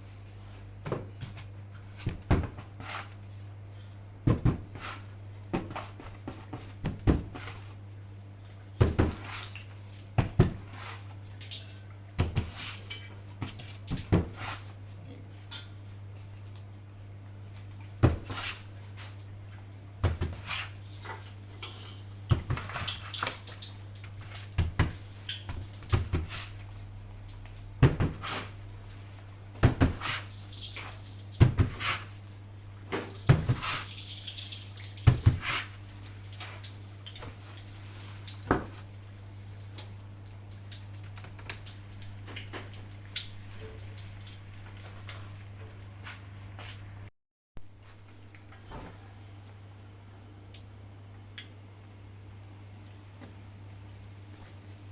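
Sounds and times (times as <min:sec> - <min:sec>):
dough frying in oil: 0:00.0 - 0:47.1, 0:47.7 - 0:54.9.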